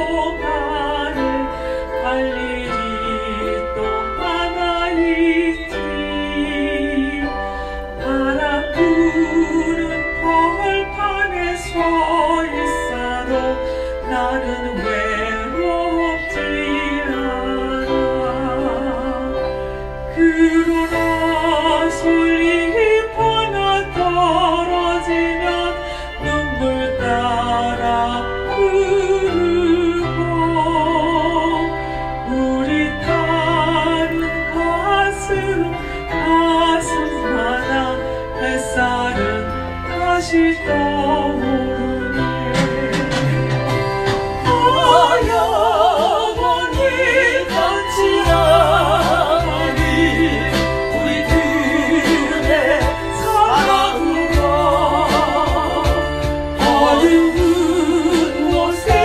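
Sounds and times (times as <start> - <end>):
instrumental backing: 0.0 - 59.0
women singing with vibrato: 0.0 - 59.0.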